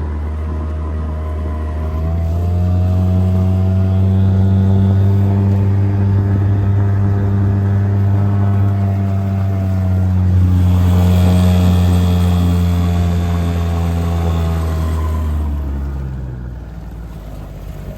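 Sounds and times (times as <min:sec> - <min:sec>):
outboard motor running: 0:00.0 - 0:17.9.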